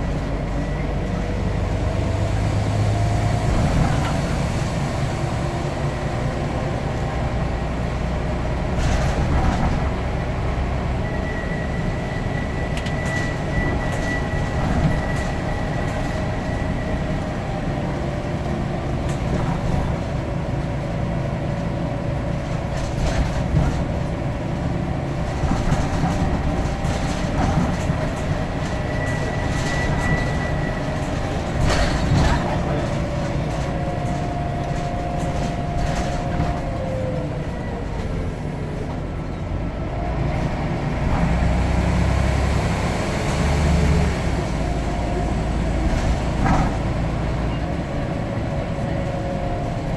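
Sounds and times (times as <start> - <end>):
bus engine rumble and whine: 0.0 - 49.9.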